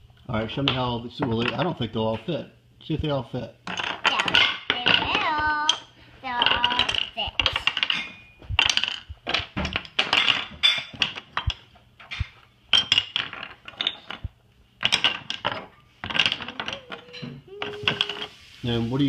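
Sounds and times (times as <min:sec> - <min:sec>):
wooden toy tools clattering: 0:00.5 - 0:02.3, 0:03.6 - 0:18.4.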